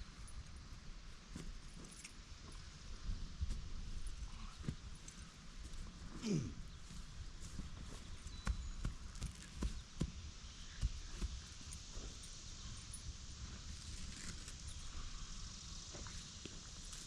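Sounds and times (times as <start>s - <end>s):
footsteps on loose soil: 0.0s - 17.0s
steady outdoor noise: 0.0s - 17.0s.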